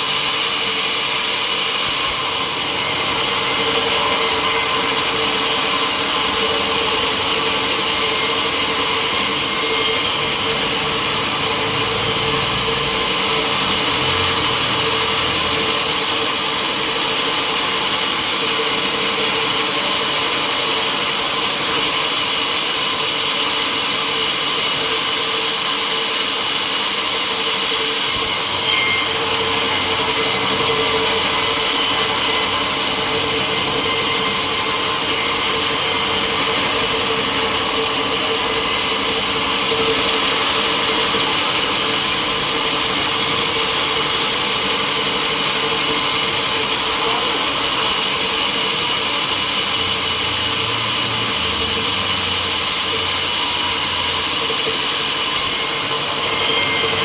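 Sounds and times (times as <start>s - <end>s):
saw cutting through wood: 0.0s - 57.0s.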